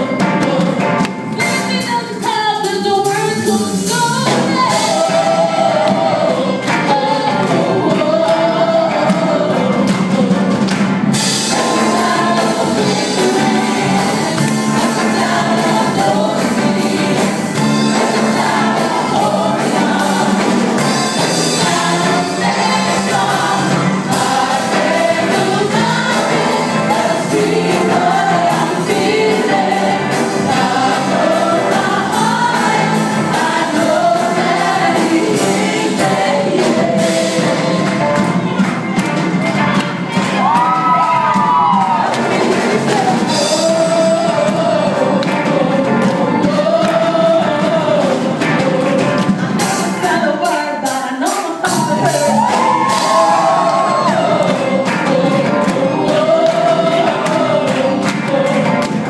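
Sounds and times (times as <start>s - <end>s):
group singing gospel song: 0.0s - 59.0s
live band with guitar and keyboard: 0.0s - 59.0s.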